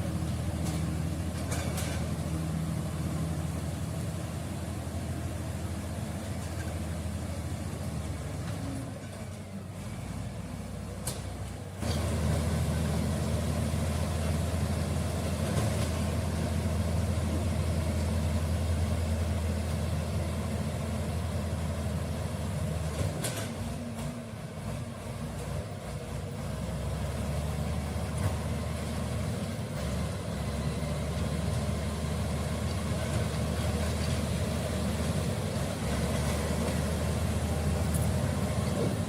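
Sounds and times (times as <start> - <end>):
bulldozer diesel engine: 0.0 - 39.0.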